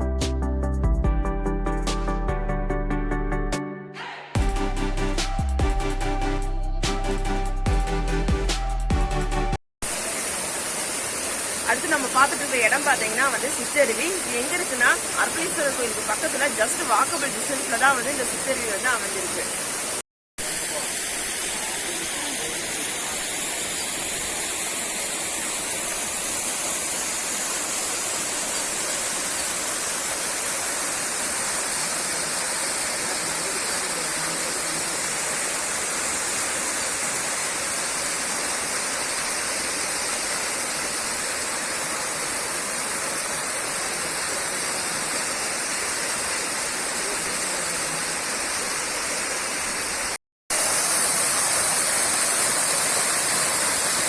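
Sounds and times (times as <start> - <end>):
small waterfall rushing: 9.8 - 54.0.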